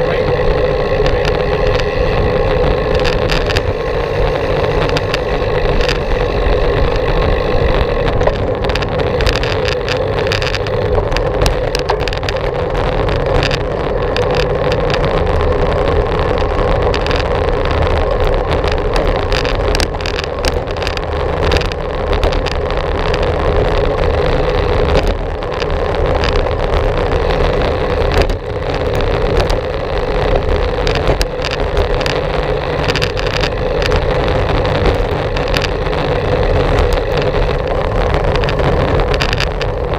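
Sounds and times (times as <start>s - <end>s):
bicycle rolling noise: 0.0s - 39.9s
low rumble and hum: 0.0s - 39.9s
wind rush: 0.0s - 39.9s.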